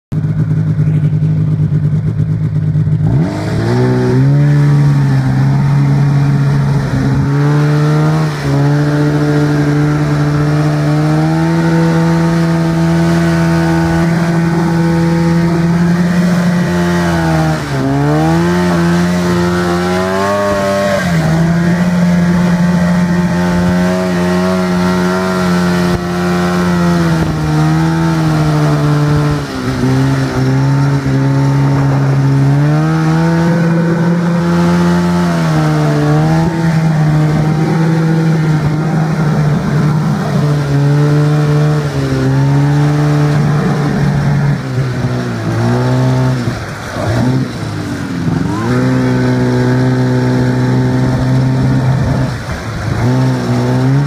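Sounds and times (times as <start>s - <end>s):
snowmobile engine revving: 0.2s - 54.0s.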